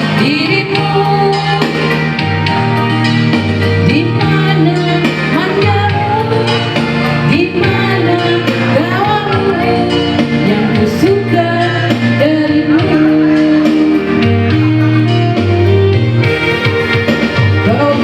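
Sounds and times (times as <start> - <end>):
instrumental backing with bass: 0.0 - 18.0
person singing: 0.0 - 18.0.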